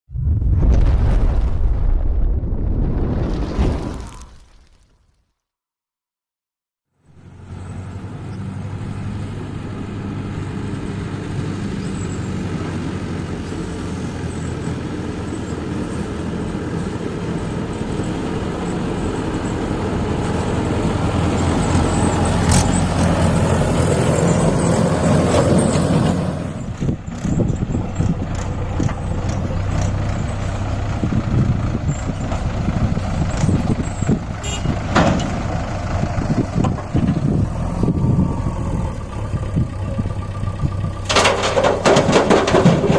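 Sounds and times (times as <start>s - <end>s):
tractor diesel engine labouring: 7.0s - 42.9s.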